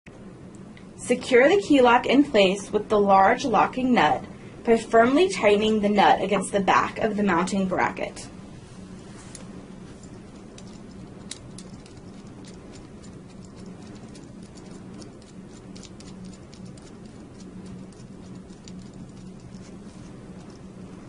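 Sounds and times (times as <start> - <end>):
low hum: 0.1 - 21.0.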